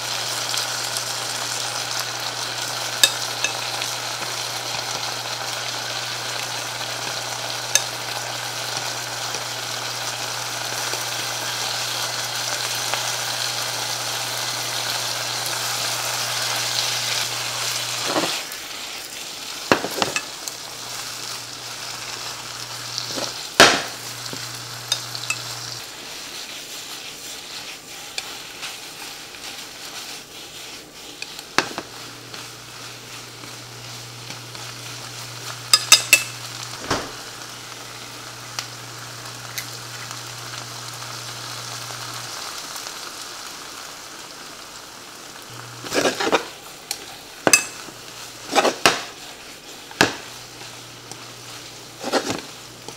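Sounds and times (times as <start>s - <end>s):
food sizzling in frying pan: 0.0s - 52.9s.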